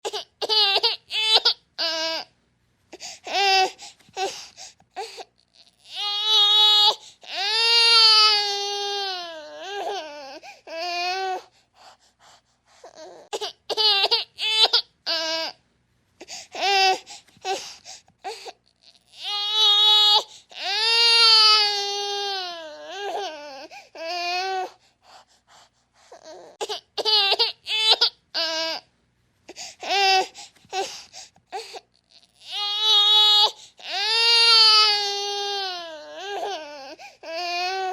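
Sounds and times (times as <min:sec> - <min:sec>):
baby crying: 0:00.0 - 0:02.3, 0:03.2 - 0:04.4, 0:05.0 - 0:11.5, 0:12.8 - 0:15.6, 0:16.5 - 0:24.8, 0:26.1 - 0:28.8, 0:29.8 - 0:37.9.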